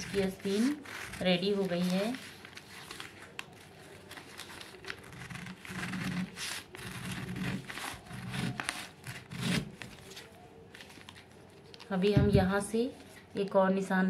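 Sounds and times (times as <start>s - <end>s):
scissors snipping newspaper: 0.0s - 12.0s
paper rustling: 0.0s - 13.3s.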